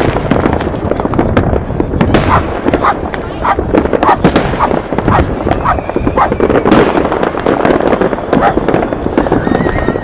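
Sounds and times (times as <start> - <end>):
fireworks bangs and cracks: 0.0 - 10.0.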